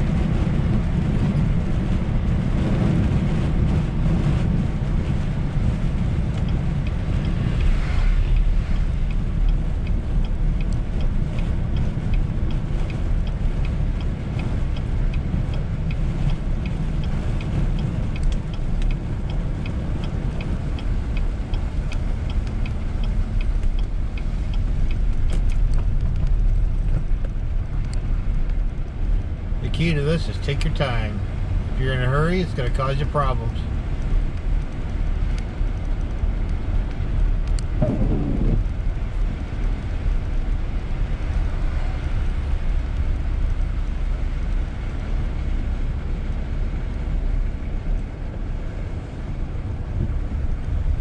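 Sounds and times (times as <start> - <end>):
car road noise rumble: 0.0 - 51.0
light regular ticking: 3.1 - 51.0.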